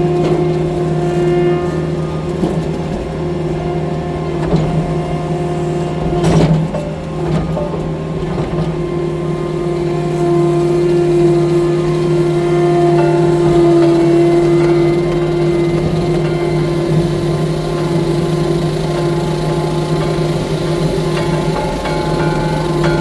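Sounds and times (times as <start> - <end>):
skid steer loader engine running: 0.0 - 23.0.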